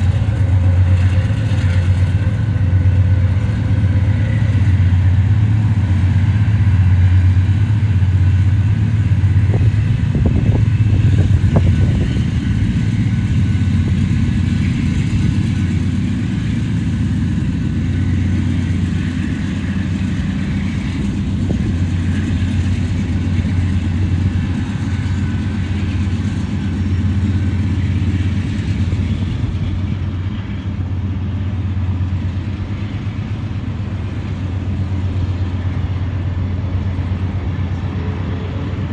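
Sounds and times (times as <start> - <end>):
locomotive engine drone: 0.0 - 38.9.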